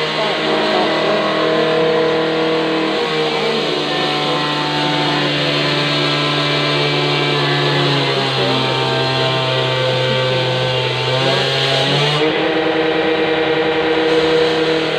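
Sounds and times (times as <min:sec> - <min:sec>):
motor droning: 0:00.0 - 0:14.9.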